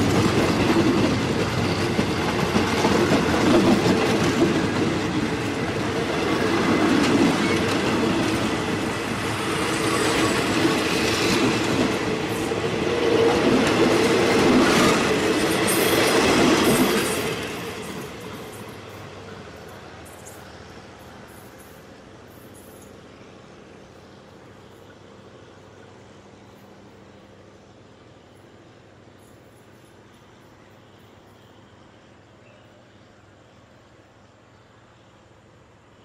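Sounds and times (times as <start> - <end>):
high squeals of train wheels: 0.0 - 36.0
train rumbling on rails: 0.0 - 36.0.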